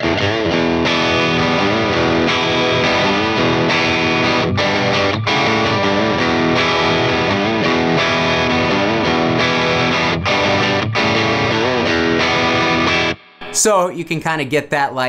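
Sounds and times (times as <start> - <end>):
overdriven electric guitar lead: 0.0 - 13.6.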